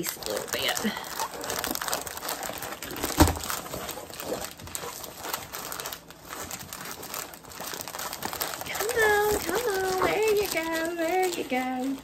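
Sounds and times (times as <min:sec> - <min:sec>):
canvas crinkling and rustling: 0:00.0 - 0:12.0.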